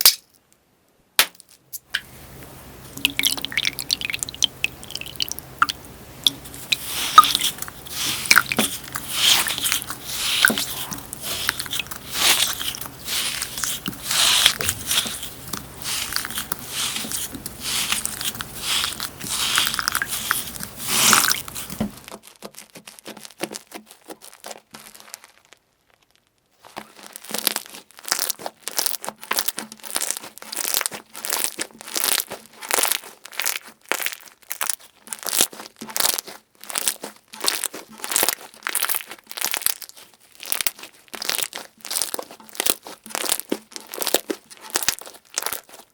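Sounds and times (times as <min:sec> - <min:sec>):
crunchy slime crackling: 0:02.8 - 0:45.9.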